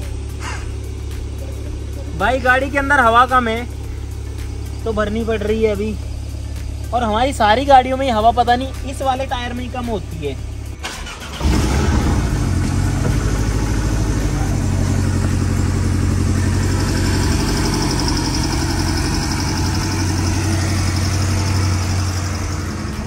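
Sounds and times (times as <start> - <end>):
sports car engine idling: 0.0 - 23.0.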